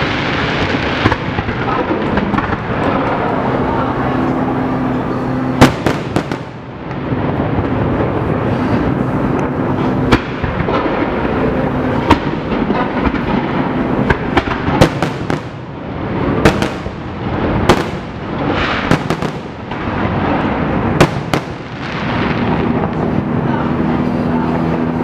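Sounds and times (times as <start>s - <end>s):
fireworks bangs and cracks: 0.0s - 25.0s
rumble and crackle of fireworks: 0.0s - 25.0s.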